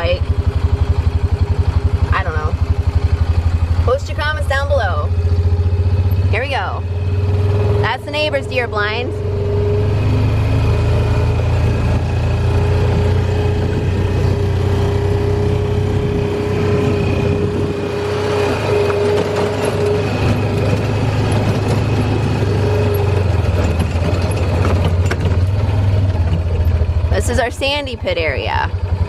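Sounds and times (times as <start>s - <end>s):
utility vehicle engine running: 0.0s - 29.0s.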